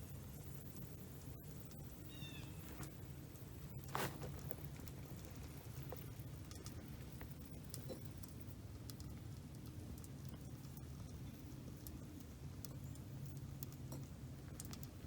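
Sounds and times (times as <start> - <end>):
campfire ticks and pops: 0.0 - 15.0.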